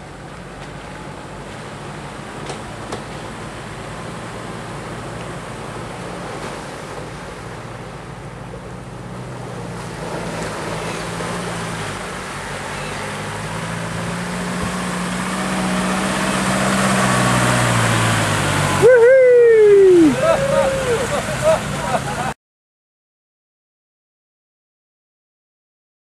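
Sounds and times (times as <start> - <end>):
vehicle engine running: 0.0 - 22.3
water rushing and splashing: 0.0 - 22.4.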